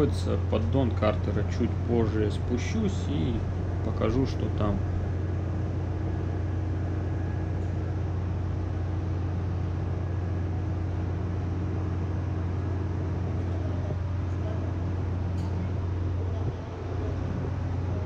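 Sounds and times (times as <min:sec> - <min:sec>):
deep engine room hum: 0:00.0 - 0:18.0
faint steady machinery tone: 0:00.0 - 0:18.0.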